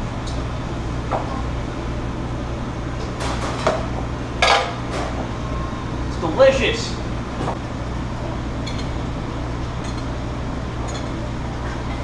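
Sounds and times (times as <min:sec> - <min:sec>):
ventilation hood humming: 0:00.0 - 0:12.0.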